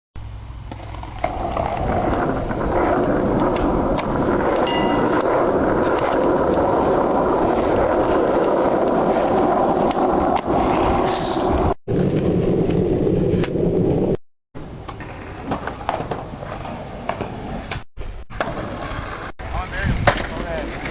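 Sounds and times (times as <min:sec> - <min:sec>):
skateboard wheels rolling: 0:00.4 - 0:20.9.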